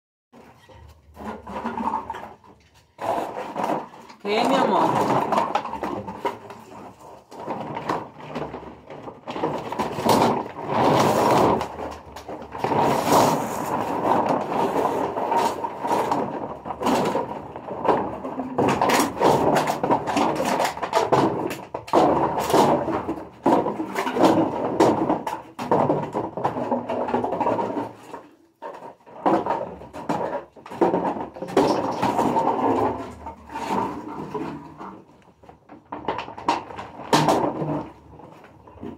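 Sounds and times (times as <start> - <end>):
plastic bottles crinkling and crackling: 0.4 - 38.9.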